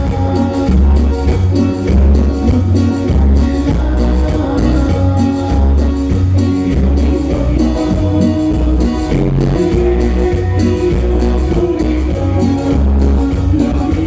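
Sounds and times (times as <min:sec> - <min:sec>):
guitar: 0:00.0 - 0:14.0
heavy bass line: 0:00.0 - 0:14.0
percussion beat: 0:00.0 - 0:14.0.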